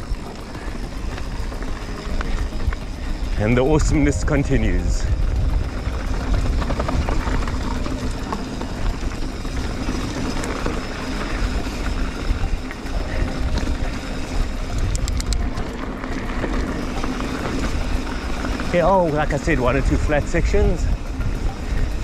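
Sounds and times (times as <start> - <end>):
sharp ticks: 0.0 - 22.0
tyres on dirt and stones: 0.0 - 22.0
wind rumble on microphone: 0.0 - 22.0.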